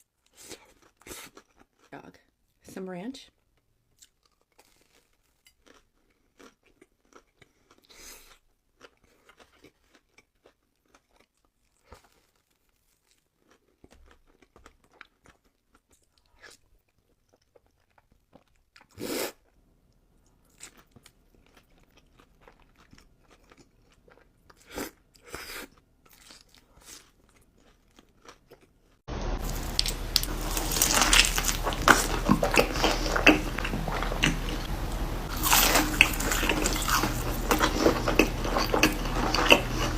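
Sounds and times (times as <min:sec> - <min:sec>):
soft chewing: 0:00.1 - 0:02.4, 0:03.4 - 0:19.6, 0:20.2 - 0:39.9
loud crunching and chewing: 0:00.2 - 0:01.9, 0:03.9 - 0:19.6, 0:20.4 - 0:39.9.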